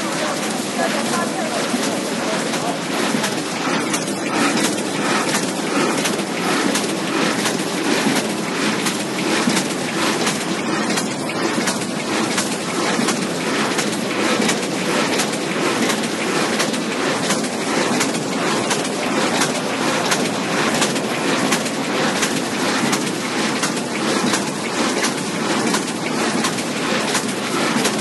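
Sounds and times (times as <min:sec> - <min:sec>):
die-cutting machine clattering: 0:00.0 - 0:28.0.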